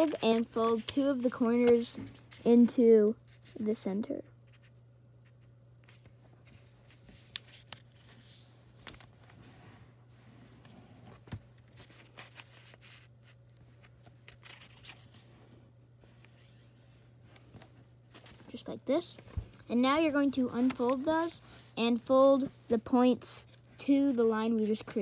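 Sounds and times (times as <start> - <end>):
paper rustling and creasing: 0.0 - 3.7, 5.3 - 25.0
low steady hum: 0.0 - 25.0.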